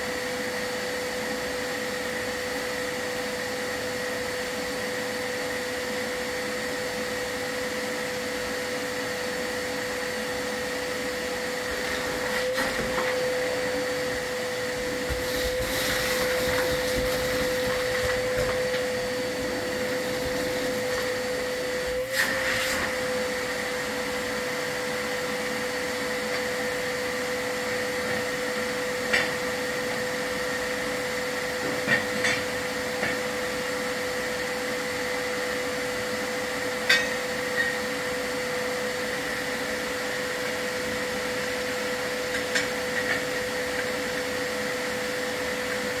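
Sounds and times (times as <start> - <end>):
vacuum cleaner whine: 0.0 - 46.0.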